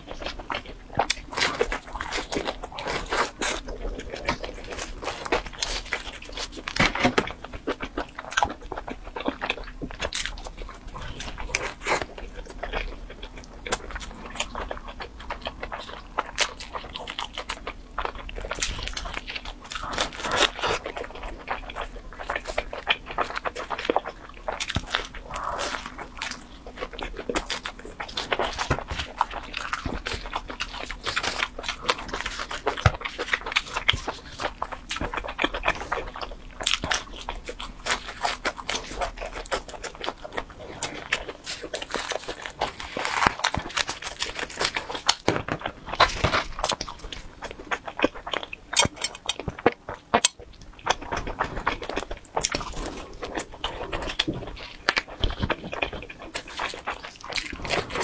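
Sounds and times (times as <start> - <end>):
crunchy bite into crust: 0.0 - 58.0
wet chewing and mouth clicks: 0.0 - 58.0.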